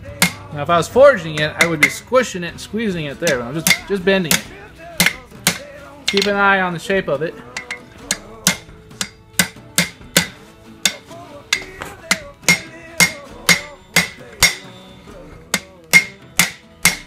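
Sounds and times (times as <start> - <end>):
guitar music: 0.0 - 17.0
hammer clanging on anvil: 0.2 - 2.3, 3.2 - 6.5, 7.5 - 17.0.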